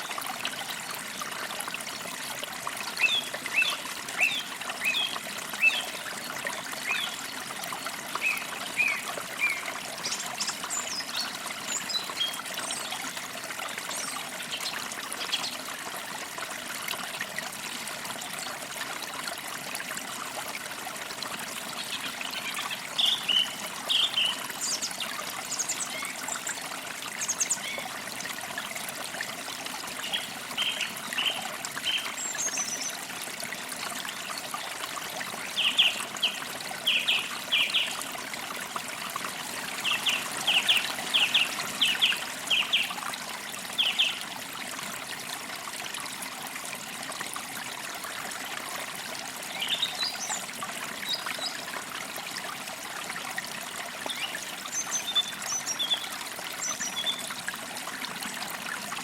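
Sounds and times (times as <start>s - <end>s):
creek trickling: 0.0s - 59.0s.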